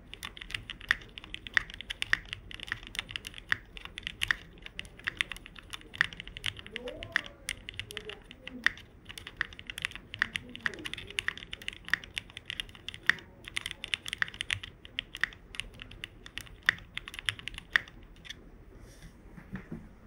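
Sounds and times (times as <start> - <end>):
mechanical keyboard typing: 0.0 - 18.4.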